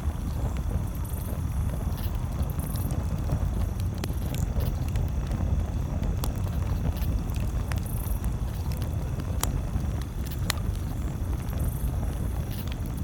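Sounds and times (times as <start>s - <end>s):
campfire crackling: 0.0s - 13.0s
sharp fire pops: 0.2s - 13.0s.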